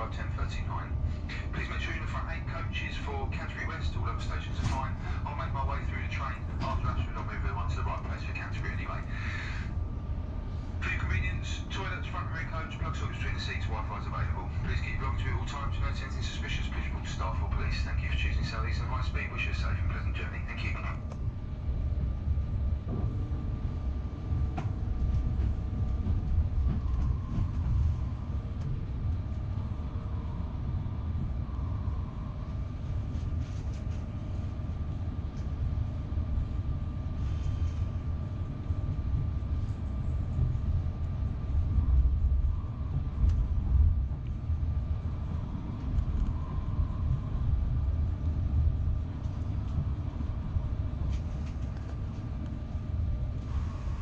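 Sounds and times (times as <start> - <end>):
electric train rumble: 0.0 - 54.0
faint steady whine: 0.0 - 54.0.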